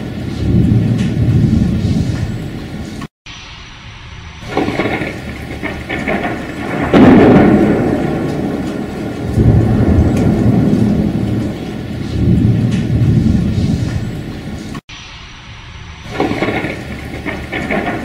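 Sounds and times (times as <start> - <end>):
steady rain: 0.0 - 18.0
thunder clap and rumble: 0.0 - 18.0.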